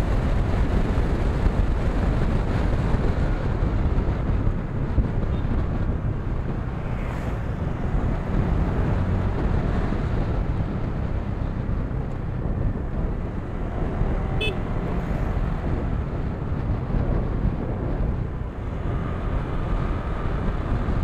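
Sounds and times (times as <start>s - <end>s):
motorcycle engine hum: 0.0s - 21.0s
wind rushing over microphone: 0.0s - 21.0s.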